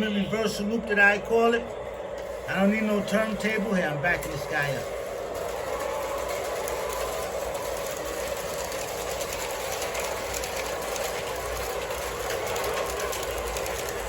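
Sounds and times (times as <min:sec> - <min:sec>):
model train motor hum: 0:00.0 - 0:14.0
wheels clicking on rails: 0:00.0 - 0:14.0.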